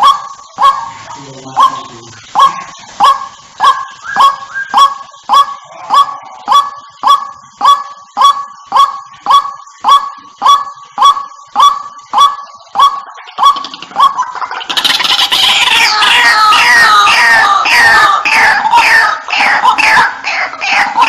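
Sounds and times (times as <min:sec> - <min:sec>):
waterhen calling: 0:00.0 - 0:21.0.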